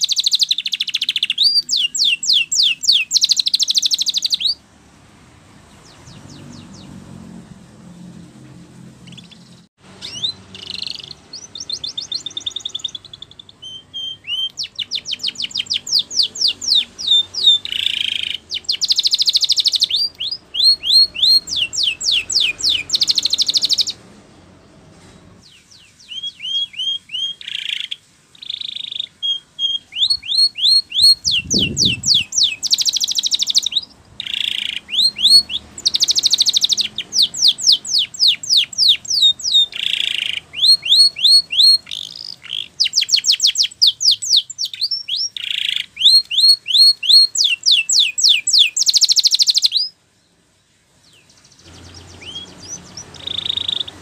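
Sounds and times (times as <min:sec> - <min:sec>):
canary singing trills: 0:00.0 - 0:04.6, 0:05.6 - 0:24.8, 0:25.4 - 0:54.0.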